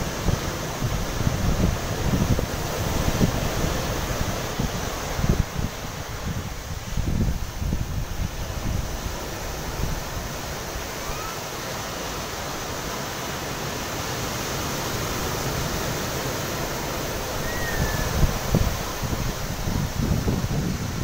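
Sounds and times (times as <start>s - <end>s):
ocean surf washing on sand: 0.0s - 21.0s.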